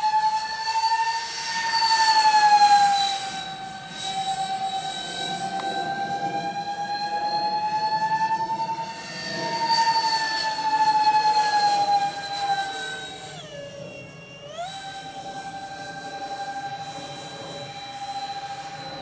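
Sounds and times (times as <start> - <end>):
model jet fan whining: 0.0 - 19.0.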